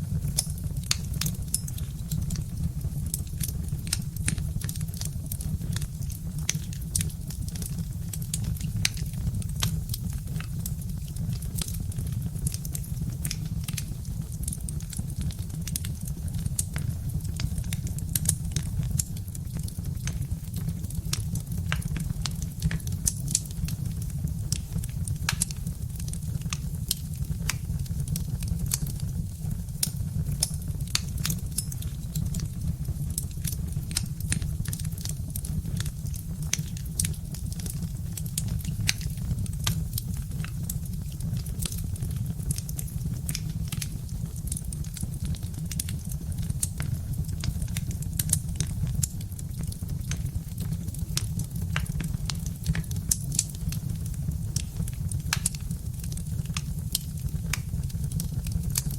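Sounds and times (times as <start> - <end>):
log fire crackling: 0.0 - 58.9.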